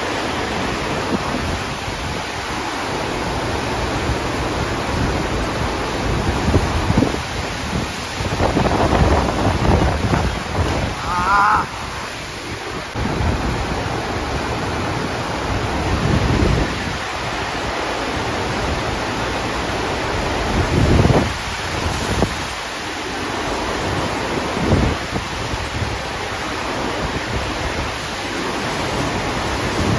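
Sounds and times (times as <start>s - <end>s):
water rushing hiss: 0.0s - 29.9s
wind buffeting microphone: 0.0s - 29.9s.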